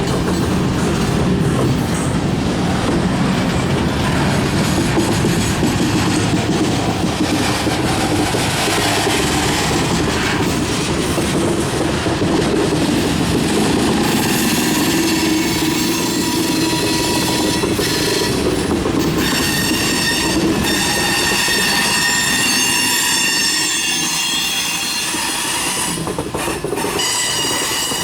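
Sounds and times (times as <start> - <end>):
train wheels clacking on rails: 0.0 - 28.0.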